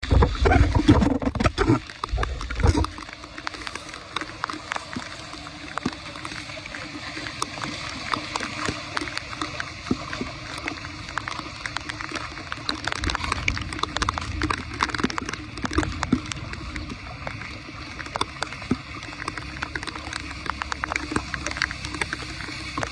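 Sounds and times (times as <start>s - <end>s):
floodwater gurgling and splashing: 0.0s - 22.9s.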